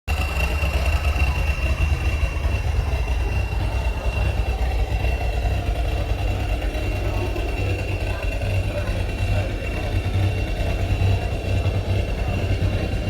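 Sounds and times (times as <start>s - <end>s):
low rumble: 0.1s - 13.0s.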